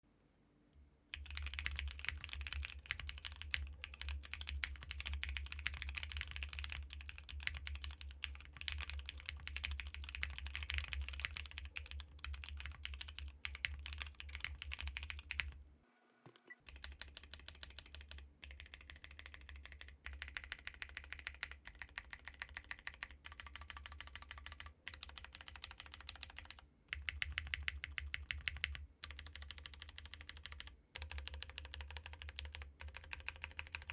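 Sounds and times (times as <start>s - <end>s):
mechanical keyboard typing: 1.1s - 15.6s, 16.2s - 33.9s.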